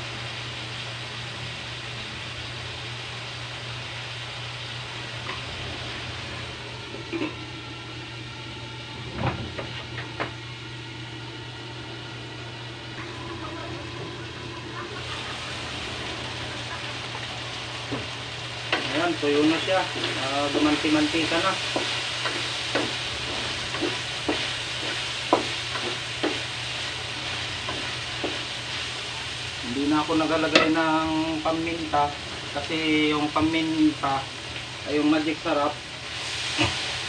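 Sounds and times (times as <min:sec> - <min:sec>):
chicken sizzling in wok: 0:00.0 - 0:09.3, 0:10.4 - 0:37.0.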